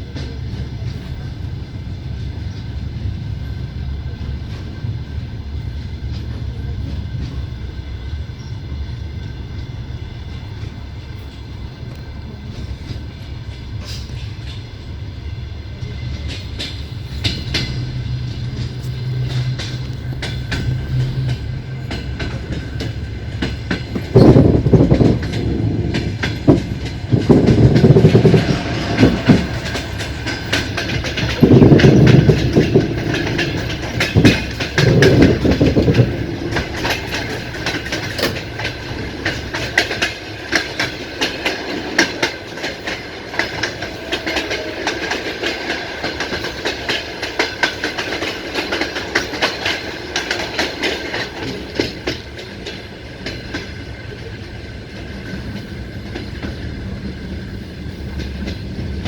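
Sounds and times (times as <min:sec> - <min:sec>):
train wheels clattering over rail joints: 0:00.0 - 0:08.5, 0:09.2 - 0:59.0.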